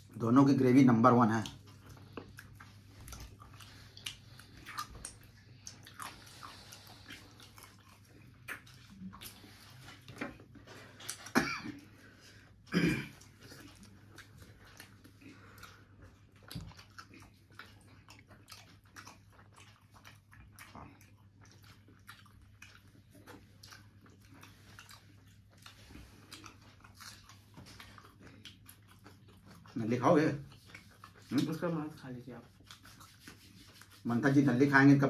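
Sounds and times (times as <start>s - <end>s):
person chewing wetly: 0.0s - 34.1s.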